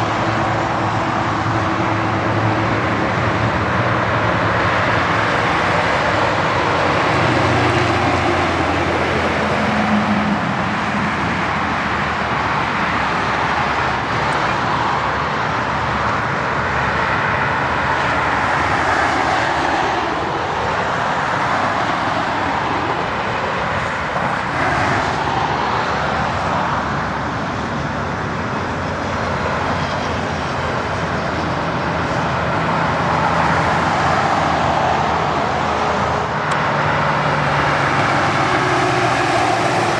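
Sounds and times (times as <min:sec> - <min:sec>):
highway traffic driving past: 0:00.0 - 0:39.9
low engine drone: 0:00.0 - 0:39.9.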